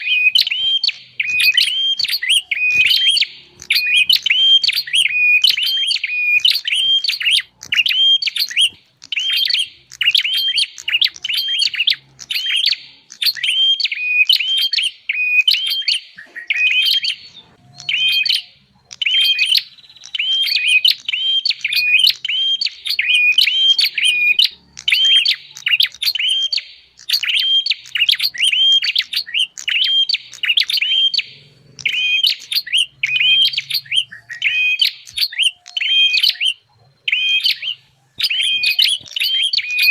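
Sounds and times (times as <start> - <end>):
bird sharp chirps: 0.0 - 39.9.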